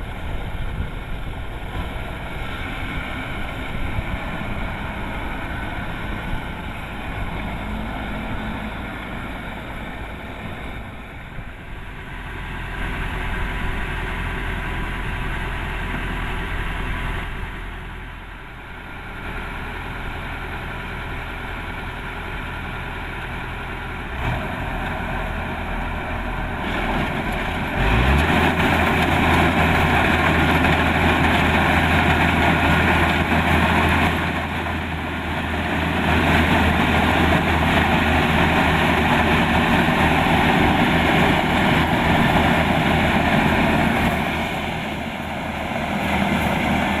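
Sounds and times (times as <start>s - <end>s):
combine harvester engine droning: 0.0s - 47.0s.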